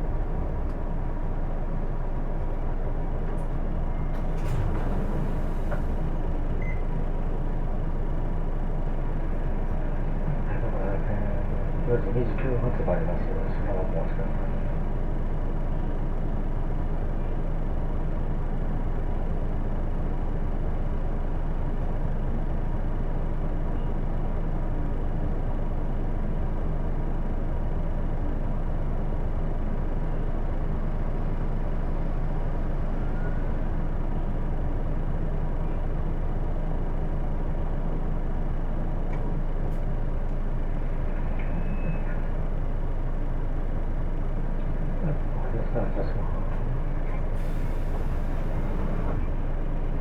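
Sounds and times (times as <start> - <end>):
bus diesel engine idling: 0.0 - 50.0.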